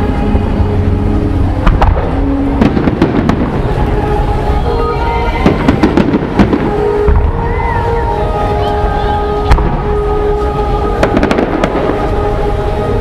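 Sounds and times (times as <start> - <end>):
fireworks exploding: 0.0 - 13.0
low rumble: 0.0 - 13.0
music playing: 0.0 - 13.0.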